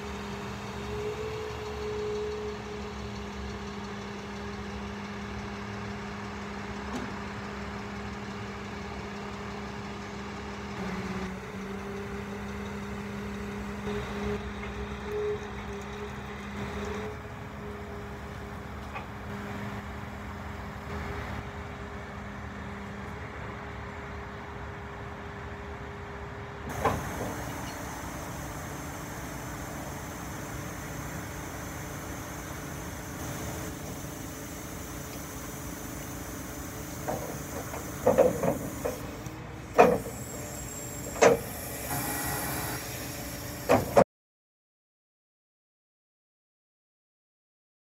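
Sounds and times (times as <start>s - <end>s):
diesel engine idling: 0.0s - 25.1s, 26.7s - 41.8s
truck and hydraulics running: 0.0s - 44.1s.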